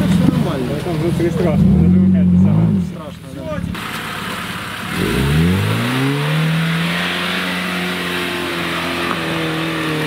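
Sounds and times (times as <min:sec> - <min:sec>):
car engine revving: 0:00.0 - 0:10.0
tyres churning through mud: 0:00.0 - 0:10.0.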